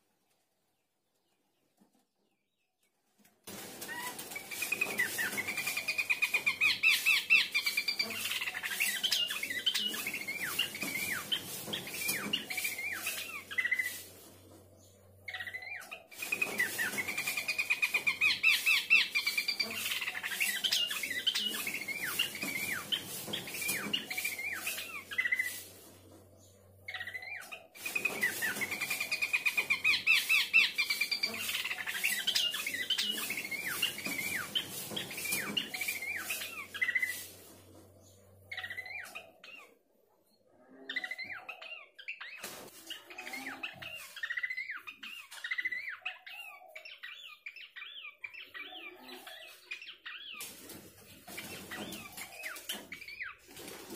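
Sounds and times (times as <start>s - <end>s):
bird singing rapid notes and trills: 3.8s - 14.1s, 14.7s - 25.6s, 26.3s - 37.3s, 38.0s - 53.8s.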